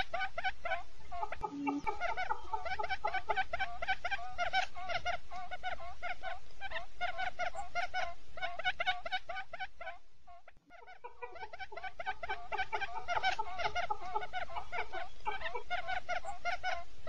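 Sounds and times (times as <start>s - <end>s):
quail decoy call chattering: 0.0s - 16.9s.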